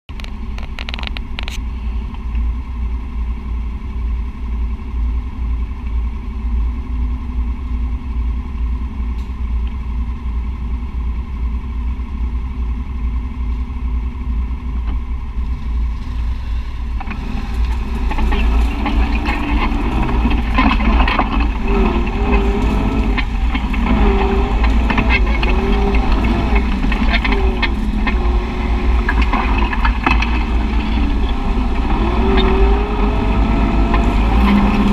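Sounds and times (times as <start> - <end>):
utility vehicle engine idling and revving: 0.0 - 34.9.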